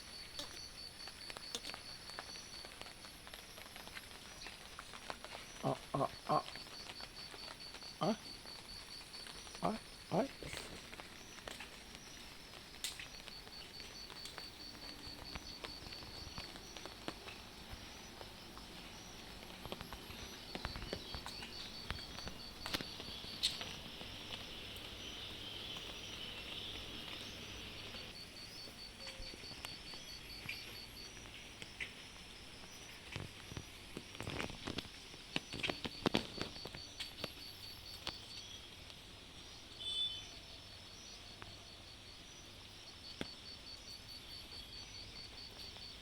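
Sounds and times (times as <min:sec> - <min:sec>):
rain: 0:00.0 - 0:46.0.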